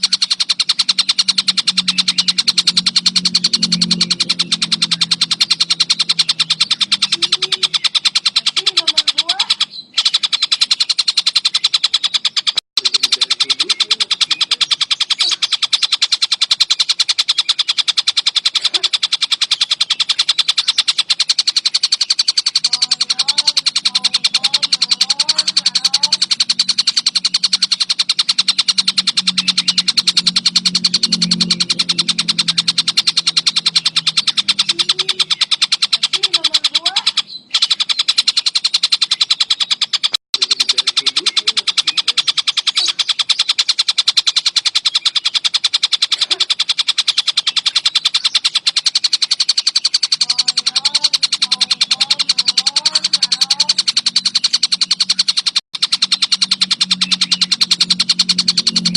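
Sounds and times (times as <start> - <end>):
kingfisher calling in rattle: 0.0 - 58.9.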